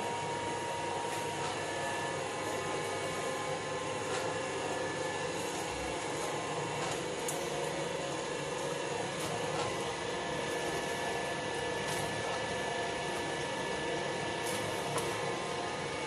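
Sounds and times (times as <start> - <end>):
electric oil press humming: 0.0 - 16.0.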